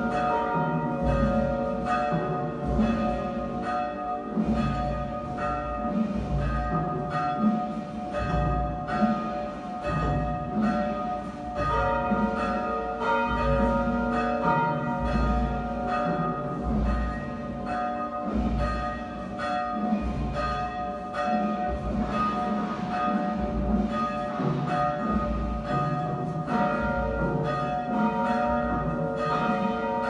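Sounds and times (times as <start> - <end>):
church bells tolling: 0.0 - 30.0.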